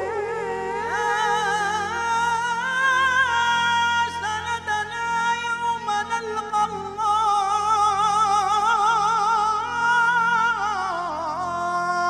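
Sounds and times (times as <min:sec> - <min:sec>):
man singing with vibrato: 0:00.0 - 0:12.0
violin: 0:00.0 - 0:12.0.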